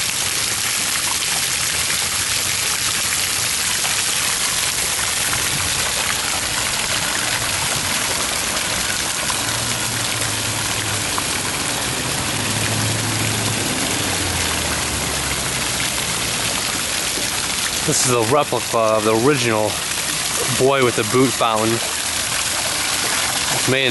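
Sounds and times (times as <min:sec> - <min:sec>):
fountain water splashing into basin: 0:00.0 - 0:23.9.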